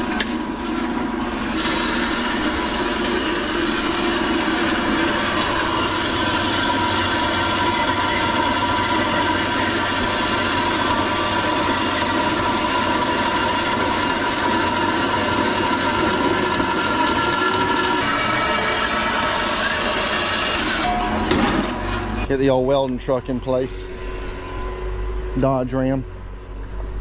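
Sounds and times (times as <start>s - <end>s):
engine drone: 0.0s - 27.0s
high whine: 0.0s - 27.0s.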